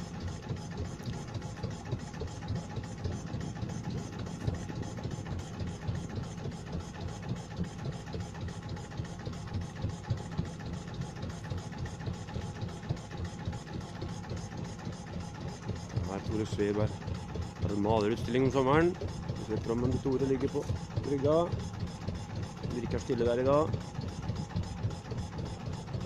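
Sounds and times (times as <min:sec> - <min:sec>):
motorboat engine puttering: 0:00.0 - 0:26.0.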